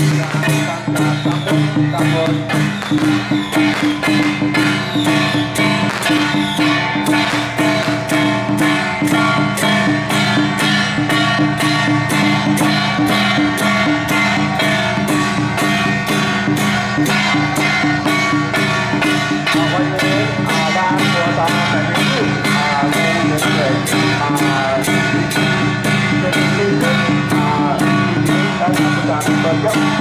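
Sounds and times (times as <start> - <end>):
music with percussive beat: 0.0 - 30.0.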